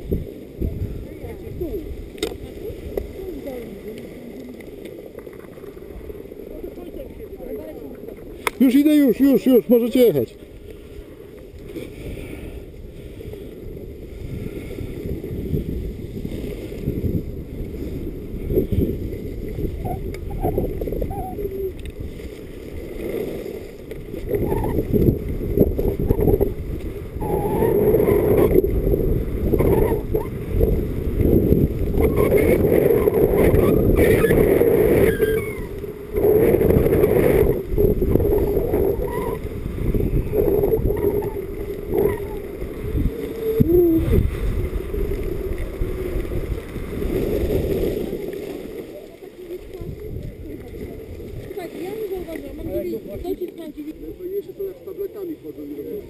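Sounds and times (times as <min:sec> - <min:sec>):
wind buffeting microphone: 0:00.0 - 0:04.4, 0:10.9 - 0:48.7, 0:49.4 - 0:54.2
skis scraping over snow: 0:08.7 - 0:56.0.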